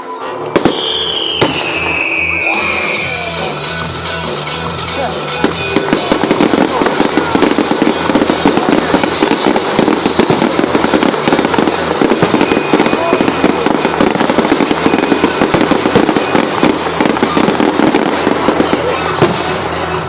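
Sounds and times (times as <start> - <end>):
fireworks crackling and popping: 0.4 - 20.0.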